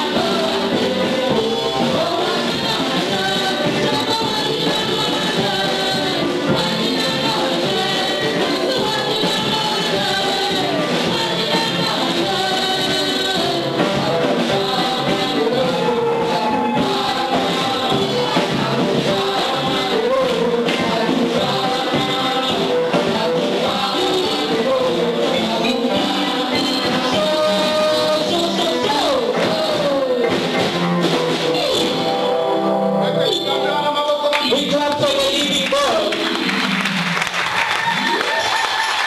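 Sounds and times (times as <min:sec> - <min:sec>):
worship song with singing: 0:00.0 - 0:36.6.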